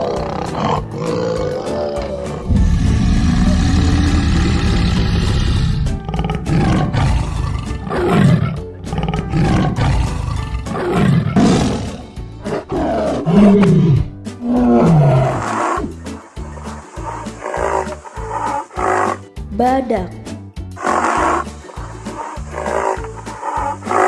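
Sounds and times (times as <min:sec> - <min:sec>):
tiger roaring: 0:00.0 - 0:16.0, 0:17.0 - 0:19.2, 0:20.8 - 0:21.5, 0:22.1 - 0:24.0
background music: 0:00.0 - 0:24.0
rhythmic music jingle: 0:00.0 - 0:24.0.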